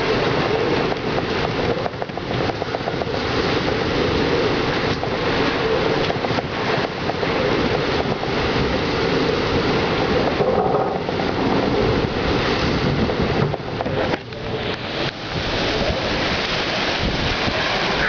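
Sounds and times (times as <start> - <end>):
heavy rain: 0.0 - 18.0
strong wind: 0.0 - 18.0
wind buffeting microphone: 0.0 - 18.0.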